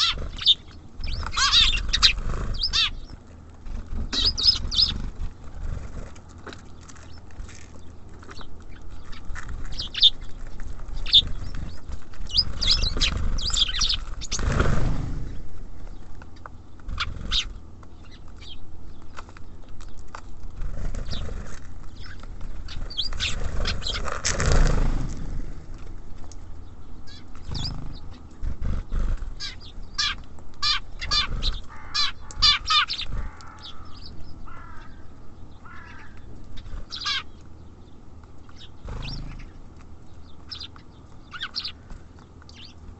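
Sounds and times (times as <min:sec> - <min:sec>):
low steady rumble: 0:00.0 - 0:42.9
songbirds chirping: 0:00.0 - 0:42.9.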